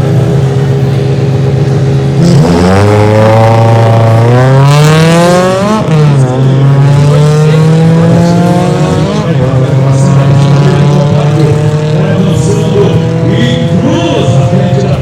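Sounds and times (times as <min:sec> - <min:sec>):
drag racing car engine: 0:00.0 - 0:15.0.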